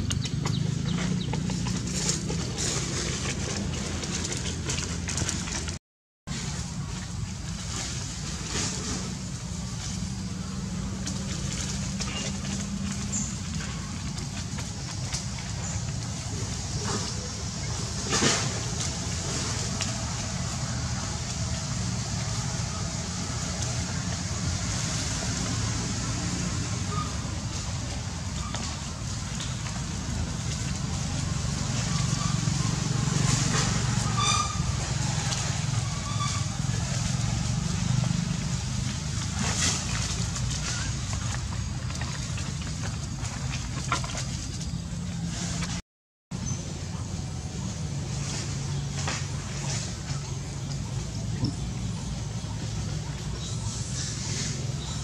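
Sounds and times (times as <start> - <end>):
rustles: 0.1 - 45.8.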